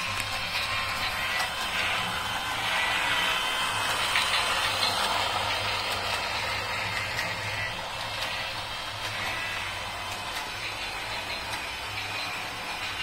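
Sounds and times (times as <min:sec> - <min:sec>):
toy train motor whirring: 0:00.0 - 0:13.0
wheels clicking over track: 0:00.0 - 0:13.0.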